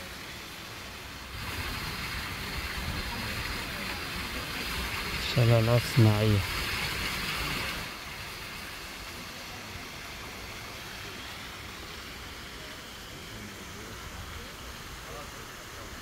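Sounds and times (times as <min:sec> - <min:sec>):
water splashing down waterfall: 0:00.0 - 0:16.0.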